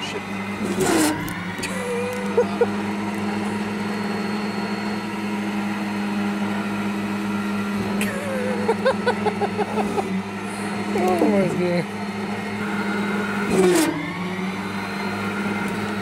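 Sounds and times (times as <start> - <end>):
hydraulic pump motor humming: 0.0 - 16.0.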